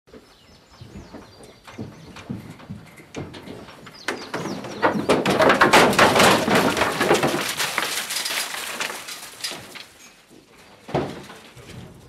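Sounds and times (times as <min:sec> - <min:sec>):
hooves clattering on metal floor: 0:00.1 - 0:12.0.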